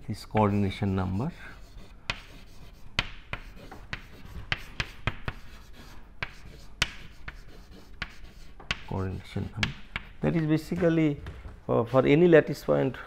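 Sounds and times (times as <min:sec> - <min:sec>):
chalk tapping and scraping on blackboard: 0:00.3 - 0:12.3.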